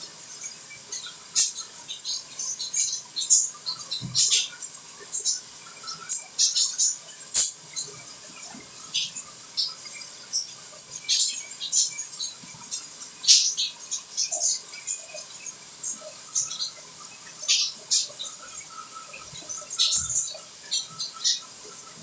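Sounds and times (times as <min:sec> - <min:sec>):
water drips and splashes: 0:00.0 - 0:22.0.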